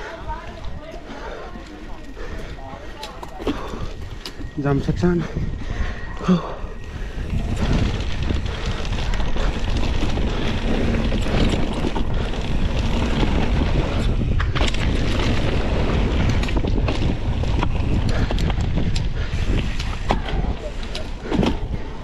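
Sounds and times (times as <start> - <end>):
tyres on dirt: 0.0 - 5.2, 6.0 - 22.0
bike clicking and rattling: 0.0 - 22.0
wind over microphone: 0.0 - 22.0.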